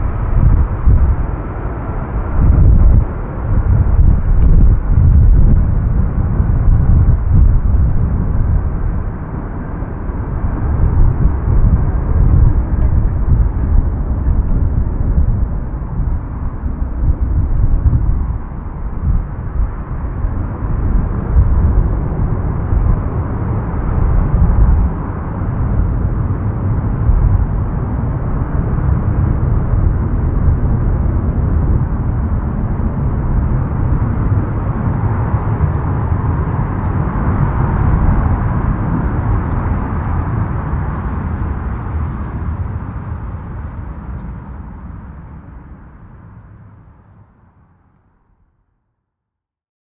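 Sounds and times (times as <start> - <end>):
jet engines roaring: 0.0 - 47.0.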